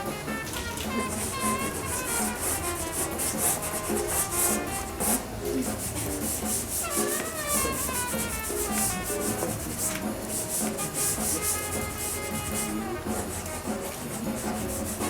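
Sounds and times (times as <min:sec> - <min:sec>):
pastel sticks scraping on paper: 0:00.0 - 0:15.0.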